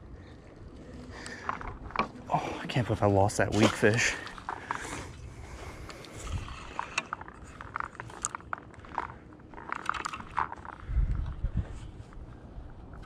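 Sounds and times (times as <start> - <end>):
fishing rod and reel handling: 0.4 - 2.3, 3.5 - 12.2.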